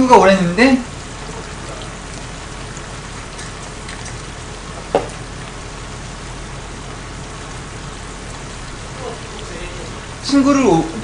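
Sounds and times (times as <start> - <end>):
meat sizzling in a frying pan: 0.2 - 10.8.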